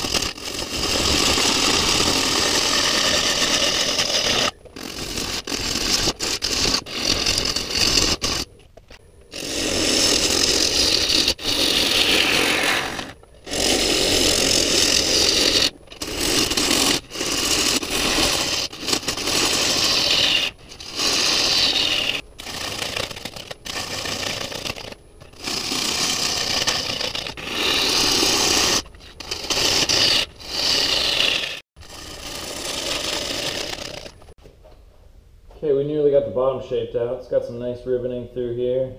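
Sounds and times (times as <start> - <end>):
lathe tool scraping wood: 0.0 - 34.4.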